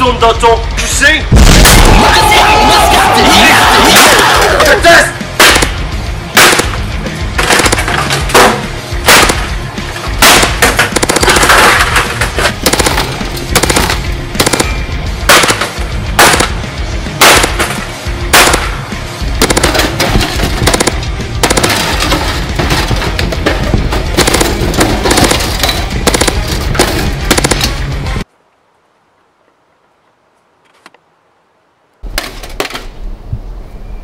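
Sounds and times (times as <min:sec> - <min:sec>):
background music: 0:00.0 - 0:28.3.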